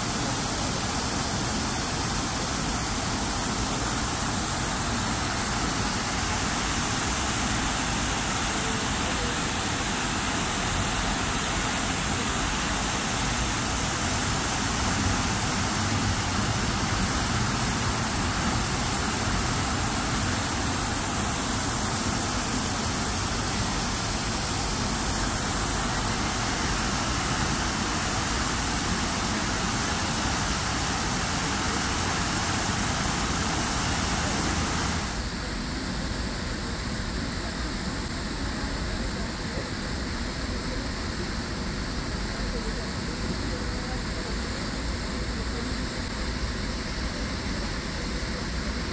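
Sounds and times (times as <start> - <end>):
fountain water splashing: 0.0 - 36.6, 38.3 - 48.9.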